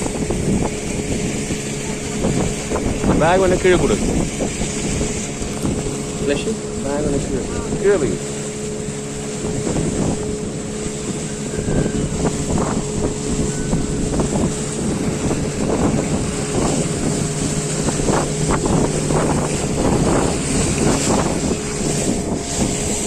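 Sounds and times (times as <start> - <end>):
boat motor running: 0.0 - 23.0
water splashing against hull: 0.0 - 23.0
wind buffeting microphone: 0.0 - 23.0.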